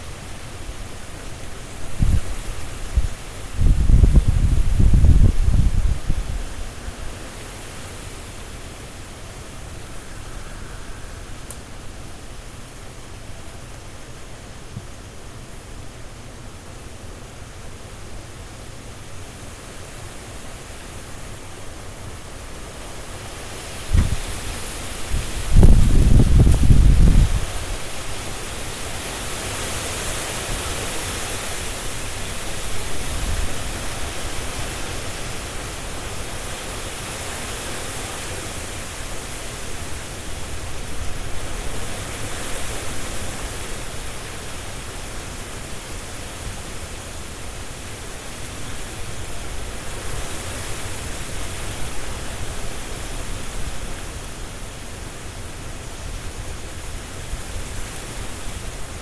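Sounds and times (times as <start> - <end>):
leaves rustling: 0.0 - 59.0
strong wind through trees: 0.0 - 59.0.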